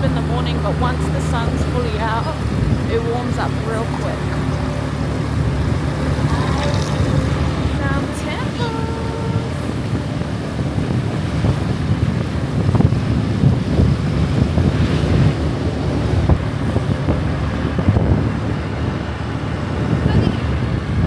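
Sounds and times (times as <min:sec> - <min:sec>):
scooter engine and road noise: 0:00.0 - 0:21.0
wind buffeting microphone: 0:00.0 - 0:21.0.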